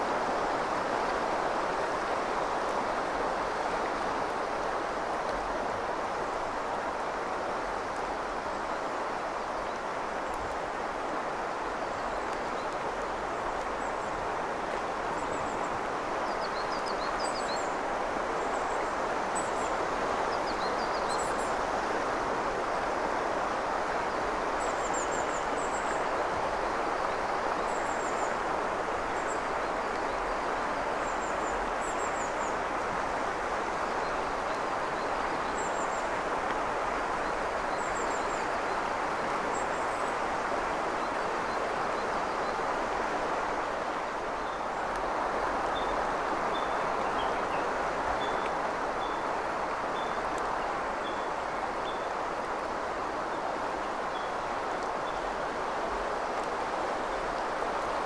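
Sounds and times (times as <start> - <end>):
river flowing over stones: 0.0 - 58.0.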